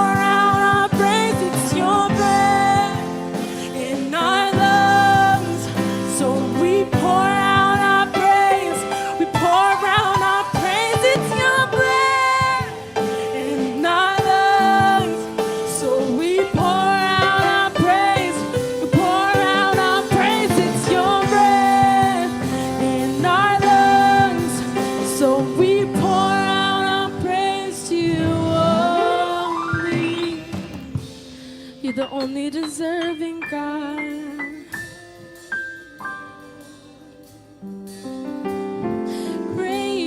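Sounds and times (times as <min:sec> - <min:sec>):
person singing gospel: 0:00.0 - 0:38.0, 0:39.1 - 0:40.0.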